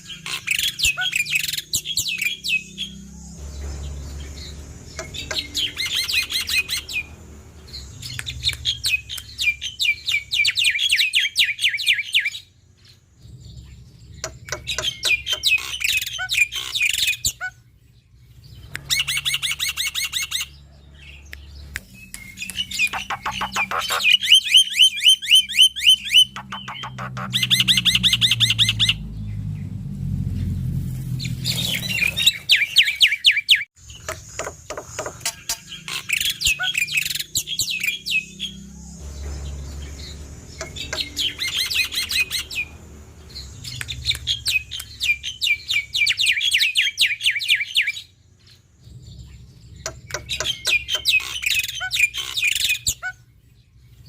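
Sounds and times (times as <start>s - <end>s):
starling singing chattering notes: 0.0s - 12.4s, 13.2s - 29.6s, 30.4s - 48.1s, 48.8s - 53.3s.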